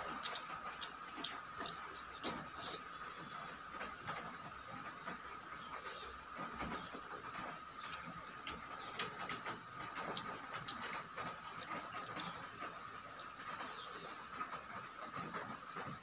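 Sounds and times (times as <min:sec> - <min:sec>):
chewing with crunches: 0:00.0 - 0:16.0.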